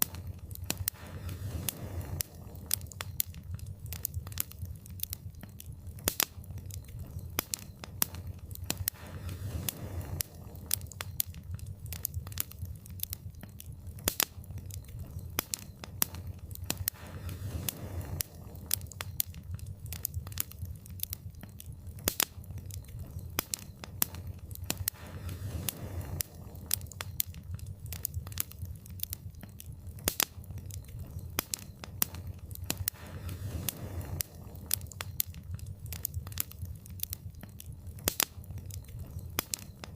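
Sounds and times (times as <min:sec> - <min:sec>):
low rumble of flames: 0:00.0 - 0:39.9
sharp pops and snaps: 0:00.0 - 0:39.9
wood fire crackling: 0:00.0 - 0:39.9.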